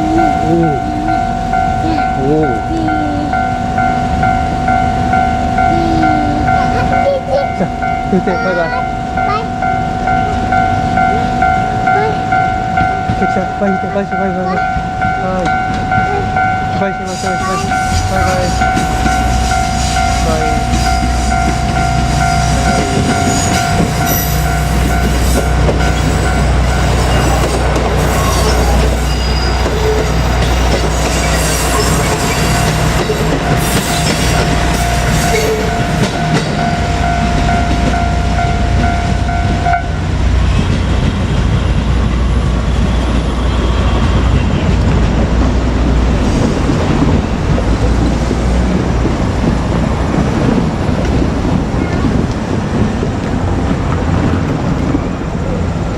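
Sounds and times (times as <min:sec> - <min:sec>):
level-crossing warning bell: 0:00.0 - 0:55.9.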